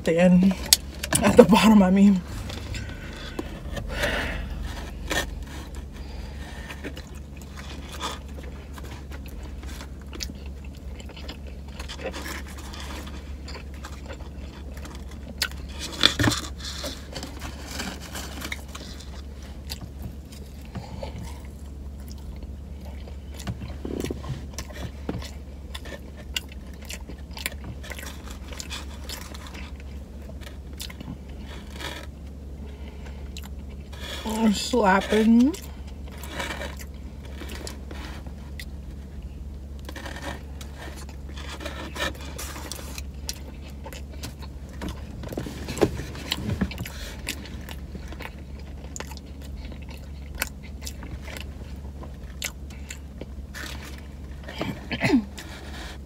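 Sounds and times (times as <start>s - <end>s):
low hum: 0.0s - 56.0s
person biting and chewing sandwich: 2.3s - 32.4s, 35.5s - 56.0s.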